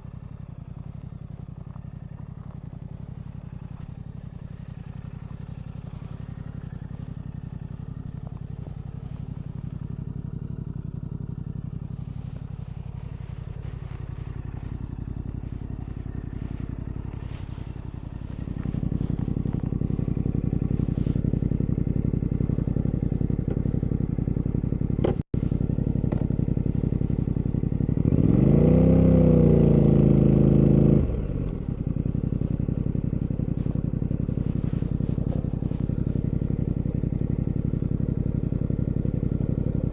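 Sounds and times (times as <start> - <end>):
motorcycle engine revving: 0.0 - 39.9
motorcycle engine running: 0.0 - 39.9.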